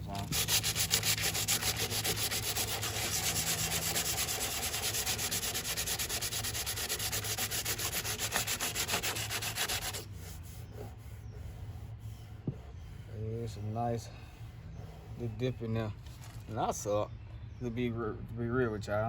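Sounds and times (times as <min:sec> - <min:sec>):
sandpaper rubbing on body filler: 0:00.0 - 0:16.5.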